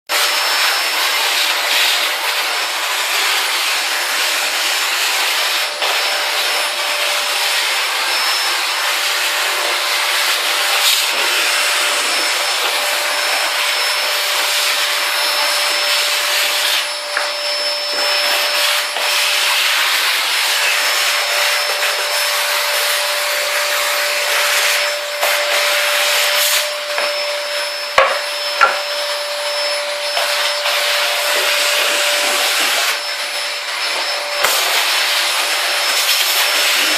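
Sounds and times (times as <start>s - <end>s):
vacuum cleaner running: 0.1s - 36.9s.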